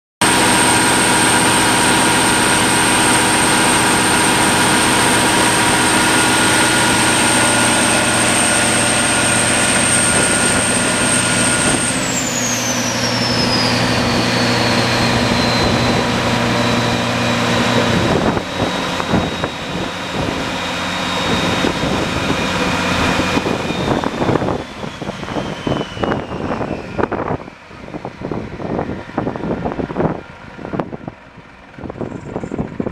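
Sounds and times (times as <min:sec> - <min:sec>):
diesel generator running with whine: 0:00.2 - 0:32.9.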